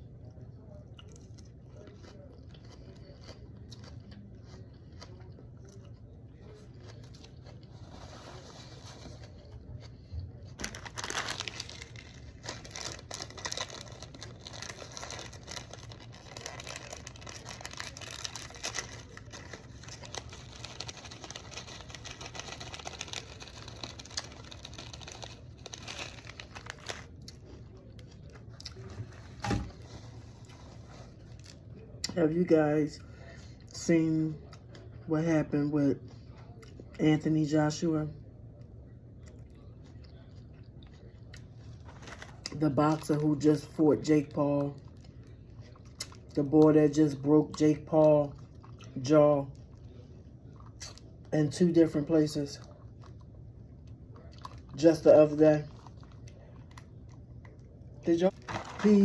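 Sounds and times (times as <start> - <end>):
chewing crunchy salad: 0.3 - 32.1, 36.0 - 37.0, 39.1 - 51.3, 52.0 - 59.0.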